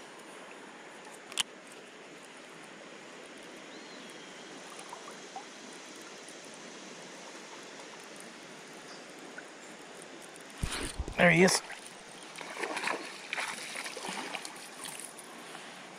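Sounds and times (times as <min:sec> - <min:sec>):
flowing river water: 0:00.0 - 0:15.9.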